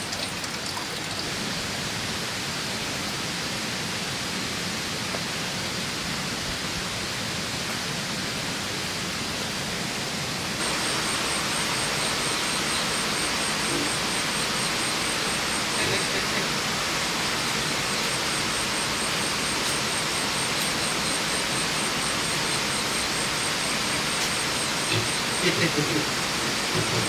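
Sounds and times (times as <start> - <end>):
running water: 0.0 - 7.3, 10.3 - 27.0
heavy rain: 0.0 - 27.0.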